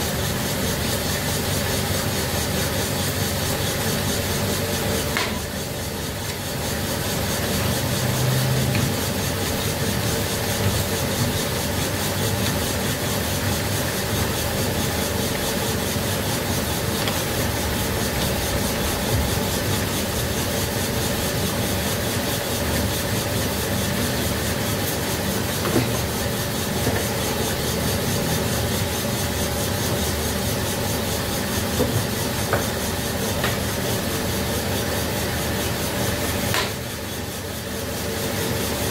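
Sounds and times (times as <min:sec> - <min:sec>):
boring machine running: 0:00.0 - 0:38.9.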